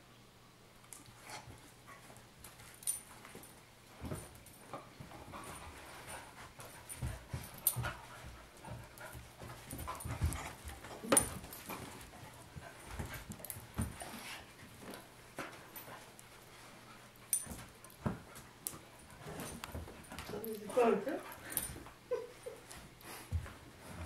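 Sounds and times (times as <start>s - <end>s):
dogs play-fighting: 0.8s - 24.0s.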